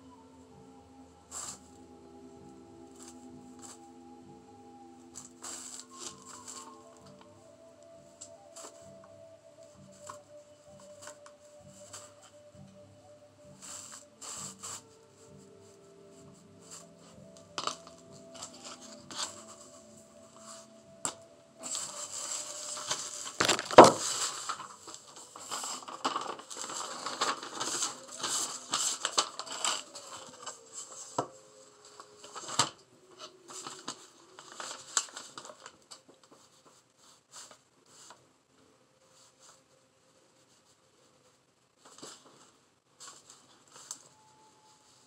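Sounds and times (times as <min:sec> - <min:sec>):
paper rustling and crinkling: 0:01.3 - 0:01.8, 0:02.8 - 0:03.9, 0:05.0 - 0:12.8, 0:13.4 - 0:38.2, 0:39.1 - 0:45.0.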